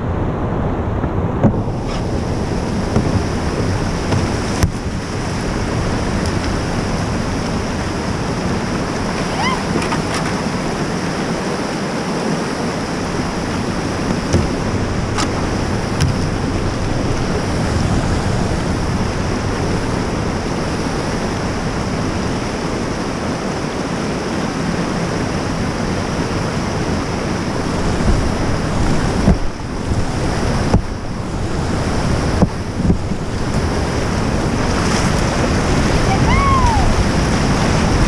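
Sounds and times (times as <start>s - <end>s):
river whitewater rushing: 0.3s - 38.0s.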